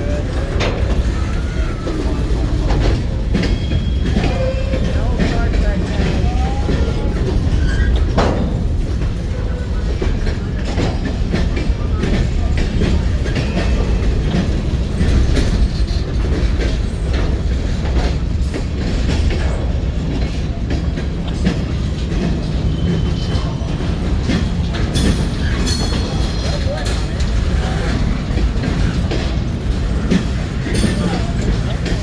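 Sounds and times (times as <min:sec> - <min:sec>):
train cars rumbling past: 0:00.0 - 0:32.0
wheels clicking over rail joints: 0:00.0 - 0:32.0.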